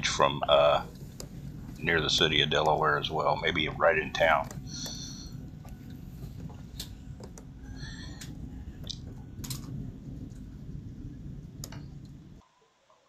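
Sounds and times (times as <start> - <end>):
thunder rumble: 0.0 - 12.4.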